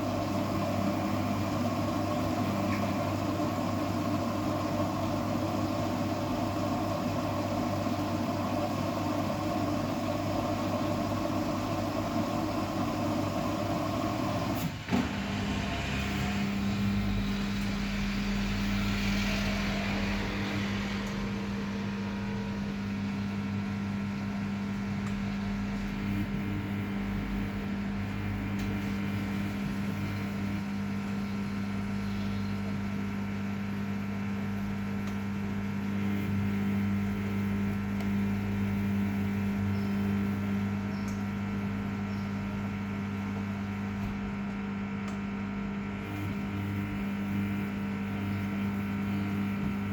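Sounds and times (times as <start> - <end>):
washing machine drum humming: 0.0 - 25.4, 32.8 - 49.9.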